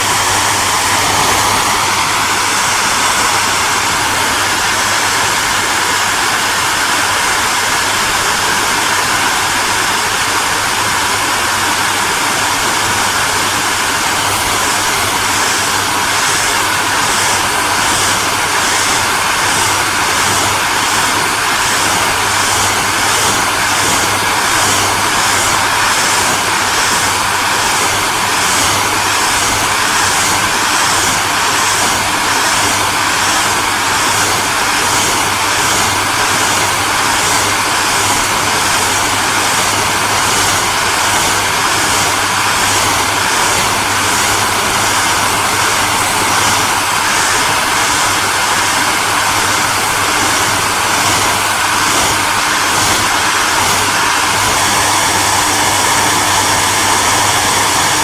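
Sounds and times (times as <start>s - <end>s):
hair dryer blowing air: 0.0s - 58.0s.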